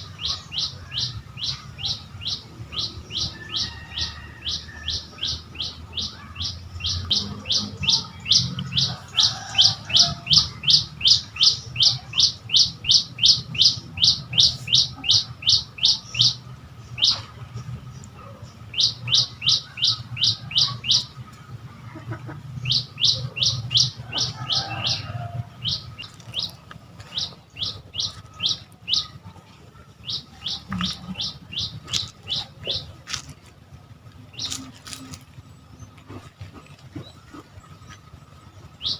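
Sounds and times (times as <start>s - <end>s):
bird chirping rapidly: 0.0s - 21.3s, 22.5s - 33.0s, 37.2s - 38.9s.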